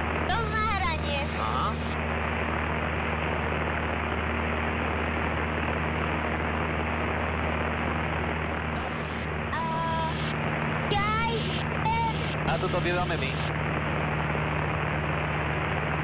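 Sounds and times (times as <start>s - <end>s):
airplane engine and propeller droning: 0.0s - 16.0s.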